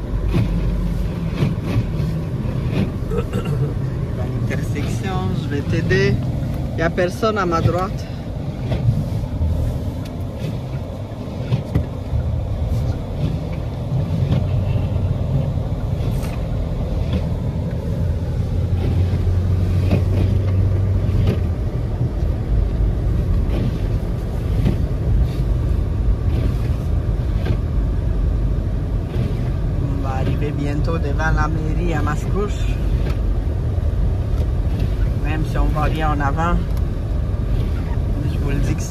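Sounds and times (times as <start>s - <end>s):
engine and tyres rumbling: 0.0s - 38.9s.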